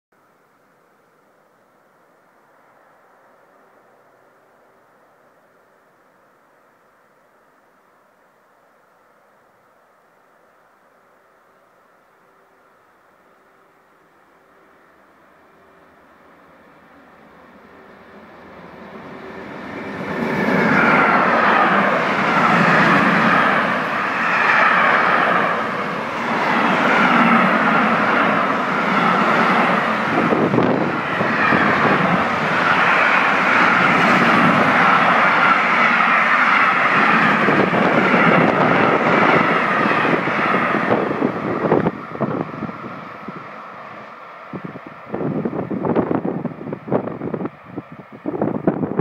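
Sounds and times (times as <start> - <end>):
freight train passing: 0.2 - 49.0.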